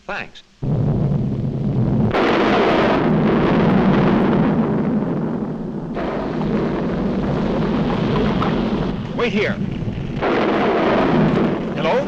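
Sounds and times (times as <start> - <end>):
cartoon volcano eruption rumble: 0.6 - 12.0.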